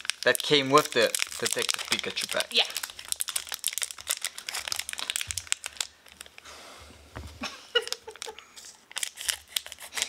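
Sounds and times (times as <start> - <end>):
foil wrapper crinkling: 0.0 - 6.4, 7.8 - 10.0.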